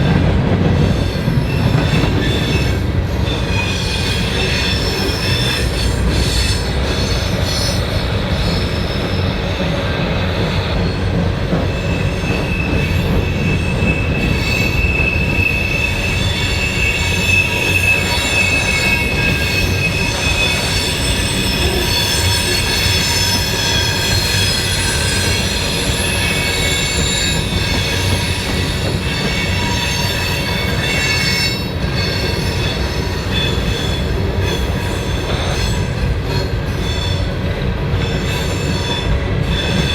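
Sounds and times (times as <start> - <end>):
train rumbling on rails: 0.0 - 39.9
train wheels squealing: 0.8 - 39.9.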